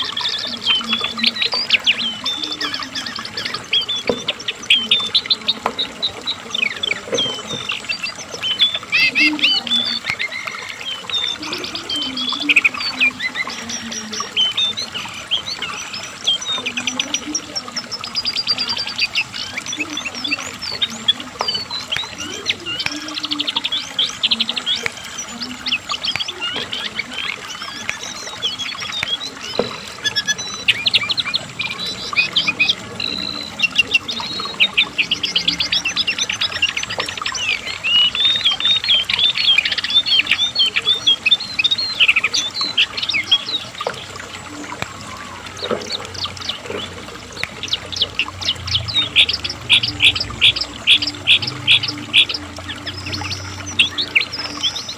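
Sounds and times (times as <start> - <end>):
bird singing chattering trills: 0.0 - 54.9.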